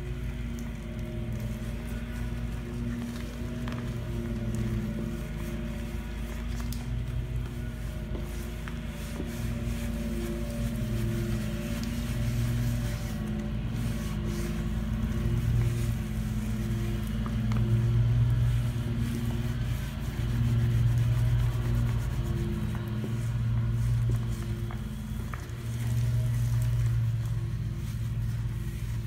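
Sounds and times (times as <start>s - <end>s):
lawn mower engine droning: 0.0s - 29.0s
sponge scrubbing a sink: 0.0s - 29.0s.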